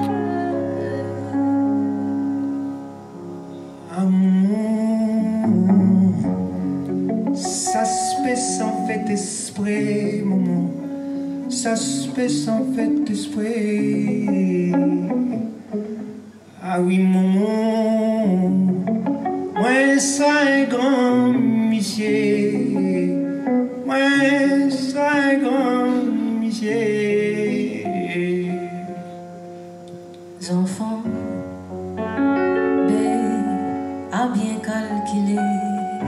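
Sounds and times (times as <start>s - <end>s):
person singing with vibrato: 0.0s - 2.7s, 3.5s - 29.7s, 30.3s - 31.6s, 32.6s - 36.0s
plucked string accompaniment: 0.0s - 36.0s.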